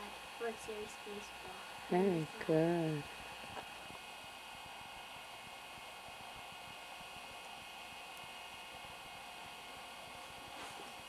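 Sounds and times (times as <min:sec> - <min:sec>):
faint hum: 0:00.0 - 0:11.0
tape hiss: 0:00.0 - 0:11.0.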